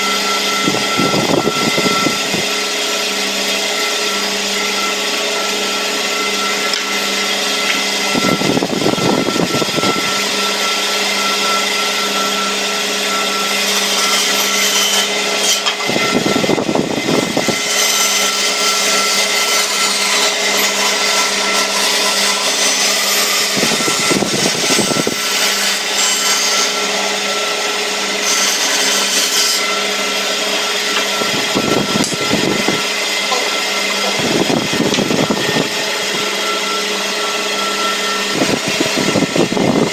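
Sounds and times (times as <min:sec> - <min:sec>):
band saw humming: 0:00.0 - 0:39.9
saw blade cutting wood: 0:00.0 - 0:39.9.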